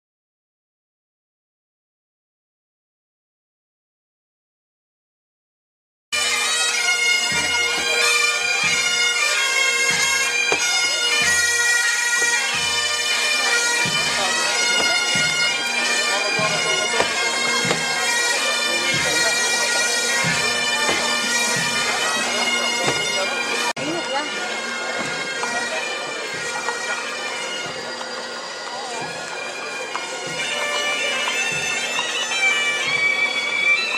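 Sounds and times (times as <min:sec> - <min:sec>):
bagpipes playing a march: 0:06.2 - 0:33.9.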